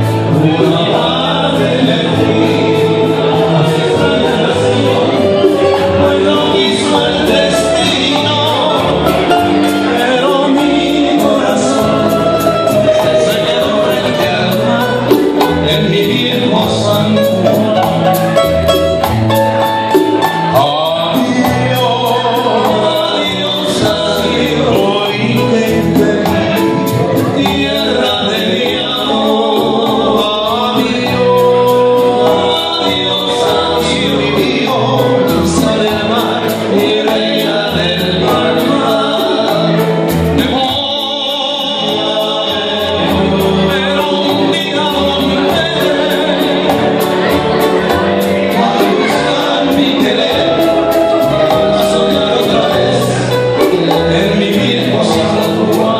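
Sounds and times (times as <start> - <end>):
acoustic guitars strummed and picked: 0.0 - 55.9
bass: 0.0 - 55.9
men singing together: 0.0 - 55.9.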